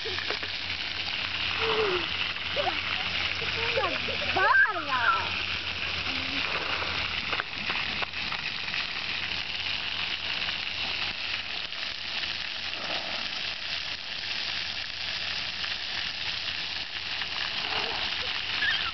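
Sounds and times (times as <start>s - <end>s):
fountain jets spraying: 0.0s - 18.9s.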